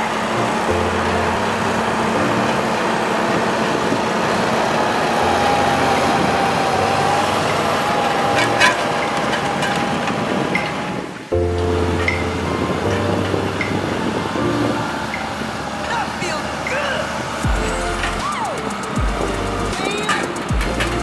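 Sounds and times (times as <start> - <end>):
steady whine: 0.0 - 21.0
tractor diesel engine under load: 0.0 - 21.0.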